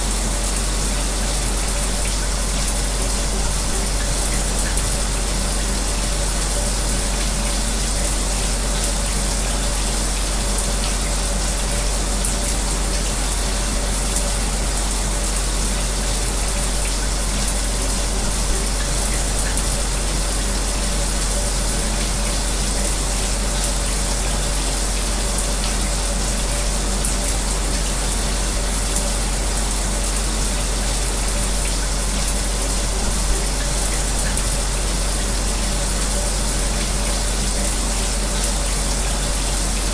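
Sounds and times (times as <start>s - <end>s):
electric fan humming: 0.0s - 39.9s
shower running: 0.0s - 39.9s.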